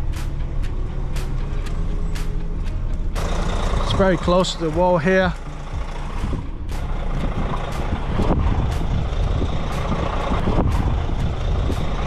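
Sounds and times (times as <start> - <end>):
lorry diesel engine running: 0.0 - 12.0.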